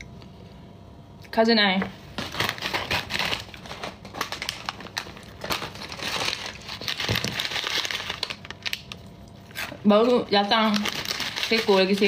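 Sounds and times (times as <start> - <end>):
plastic packaging crinkling: 2.1 - 12.0.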